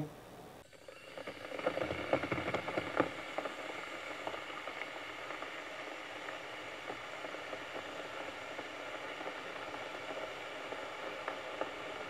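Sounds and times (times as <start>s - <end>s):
coffee machine brewing: 0.6s - 12.0s
coffee pouring into a mug: 0.7s - 12.0s.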